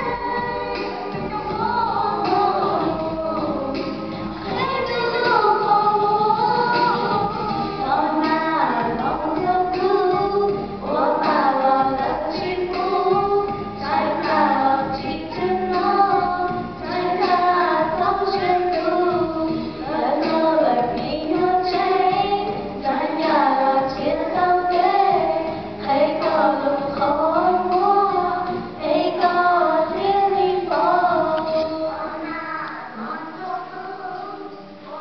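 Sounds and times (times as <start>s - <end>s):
women singing in harmony: 0.0s - 35.0s.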